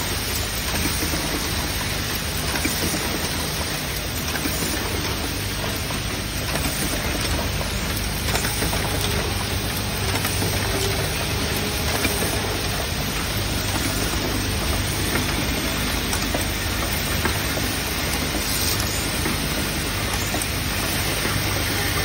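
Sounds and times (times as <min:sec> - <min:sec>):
machine rattling metal parts: 0:00.0 - 0:22.0.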